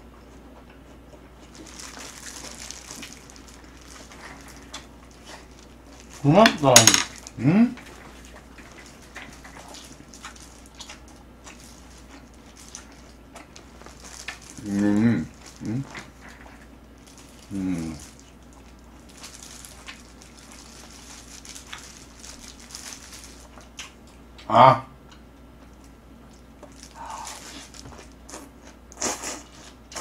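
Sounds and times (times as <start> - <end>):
rustling food handling: 1.4 - 24.1, 26.6 - 28.6.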